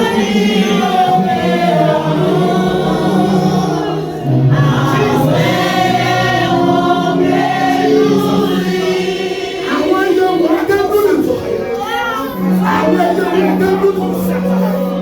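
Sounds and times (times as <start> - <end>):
group singing a hymn: 0.0 - 15.0.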